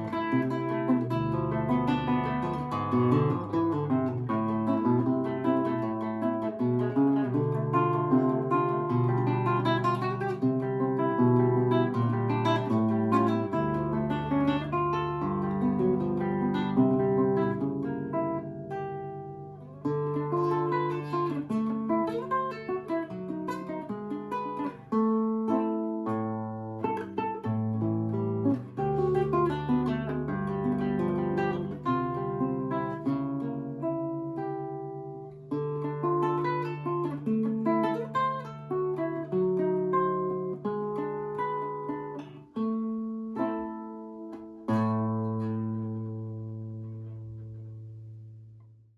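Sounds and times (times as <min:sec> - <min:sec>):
acoustic guitar playing: 0:00.0 - 0:48.9.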